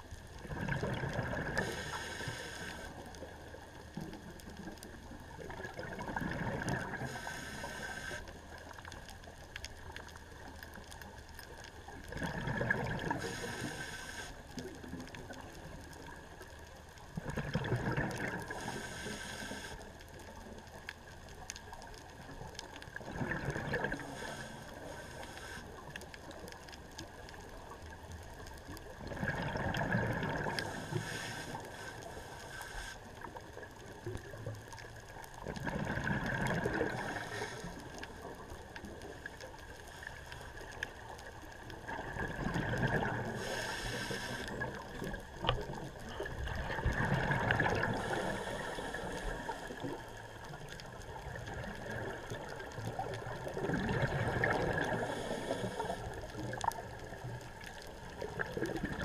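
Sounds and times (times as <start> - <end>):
exhaled bubbles underwater: 0.0 - 9.1, 11.9 - 13.8, 17.1 - 19.2, 21.4 - 31.7, 33.2 - 39.8, 40.6 - 59.0
steady underwater hiss: 0.0 - 59.0.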